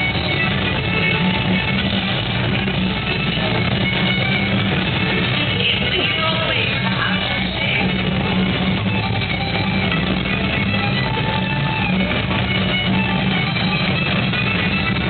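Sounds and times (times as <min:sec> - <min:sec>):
guitar-led music: 0:00.0 - 0:15.0.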